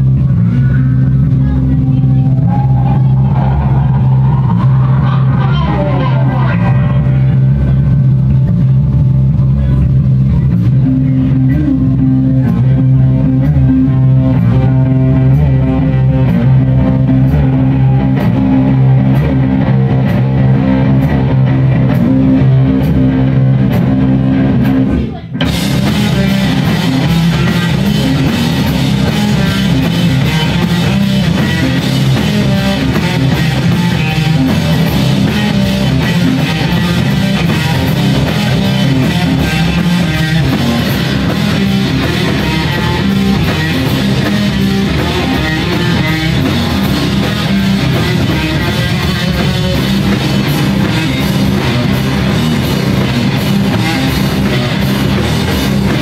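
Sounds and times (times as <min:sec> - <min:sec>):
live heavy rock band: 0:00.0 - 0:56.0.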